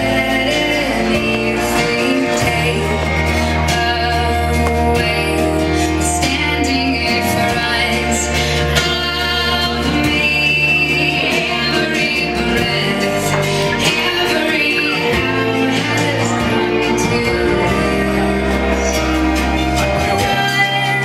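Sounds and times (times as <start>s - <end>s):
bass notes: 0.0s - 21.0s
song with singer and guitar: 0.0s - 21.0s.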